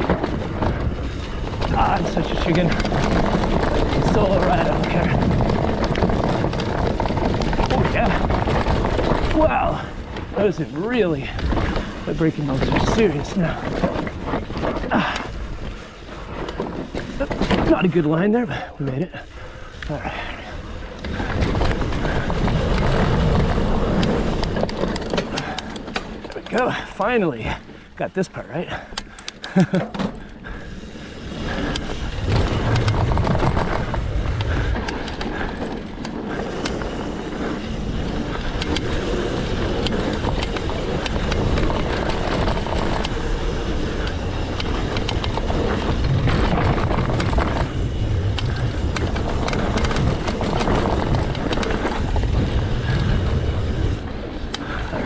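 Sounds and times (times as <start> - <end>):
wind rushing over microphone: 0.0 - 27.7, 30.2 - 55.0
bike rattling and clicking: 0.0 - 55.0
tyres rolling on dirt: 0.0 - 55.0.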